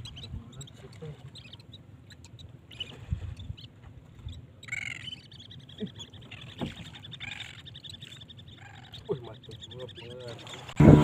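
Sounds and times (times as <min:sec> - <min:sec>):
seabirds calling: 0:00.0 - 0:10.8.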